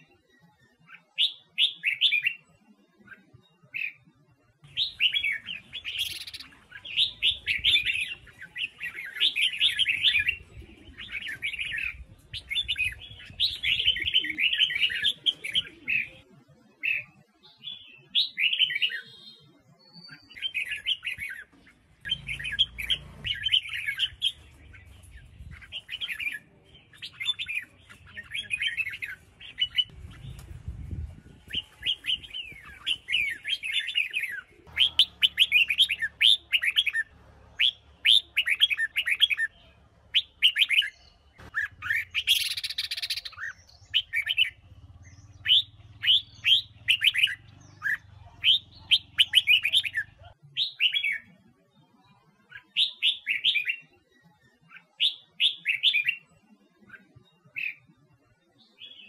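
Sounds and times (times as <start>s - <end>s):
bird whistled song: 0.0s - 4.0s, 4.7s - 16.3s, 16.9s - 51.4s, 52.5s - 57.9s.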